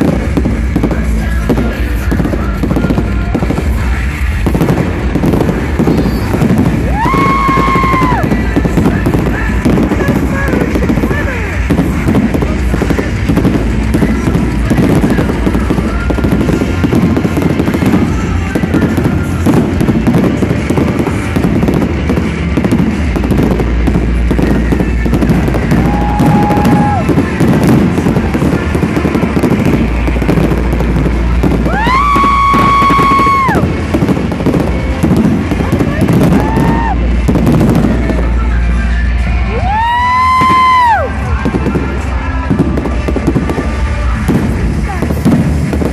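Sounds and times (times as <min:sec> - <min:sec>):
fireworks crackling and banging: 0:00.0 - 0:45.9.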